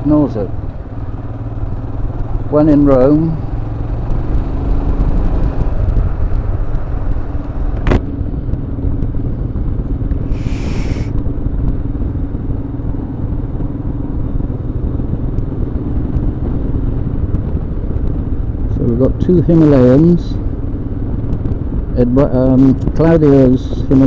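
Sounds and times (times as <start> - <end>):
low wind rumble: 0.0 - 24.0
motorcycle engine running: 0.0 - 24.0.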